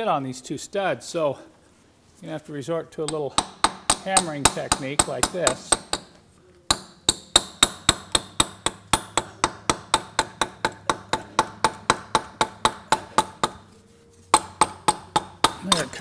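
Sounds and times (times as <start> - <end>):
hammer tapping on metal housing: 3.1 - 16.0.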